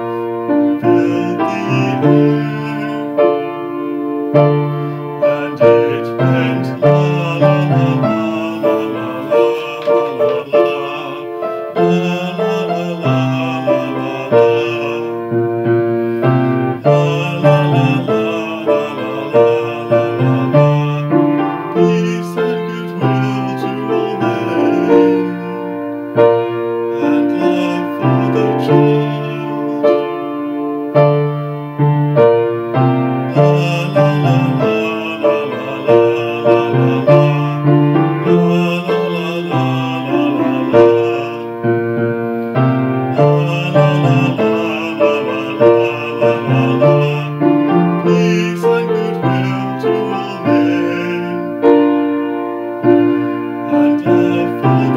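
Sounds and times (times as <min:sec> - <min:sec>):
keyboard piano music: 0:00.0 - 0:54.9.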